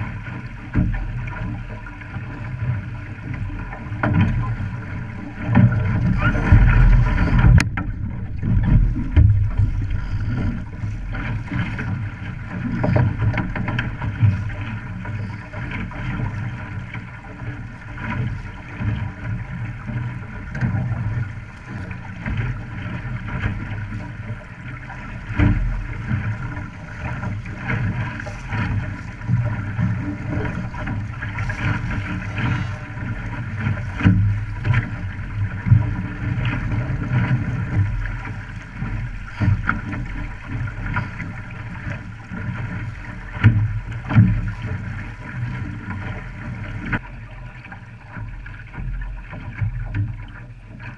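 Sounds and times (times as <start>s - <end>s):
water splashing along hull: 0.0s - 50.9s
wind buffeting microphone: 0.6s - 47.0s.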